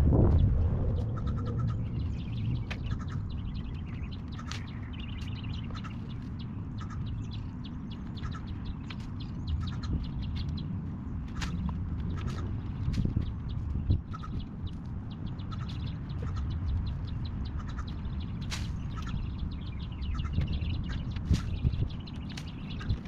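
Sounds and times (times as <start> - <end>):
steady low rumble: 0.0 - 23.0
small birds chirping: 0.2 - 23.0.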